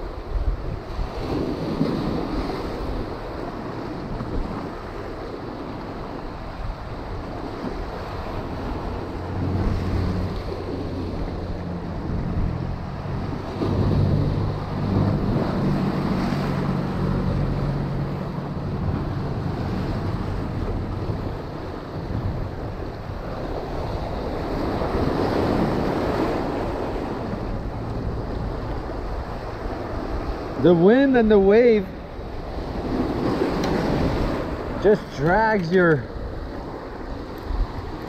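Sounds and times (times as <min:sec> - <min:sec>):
wind rumbling on microphone: 0:00.0 - 0:38.0
surf breaking over rocks: 0:00.9 - 0:38.0.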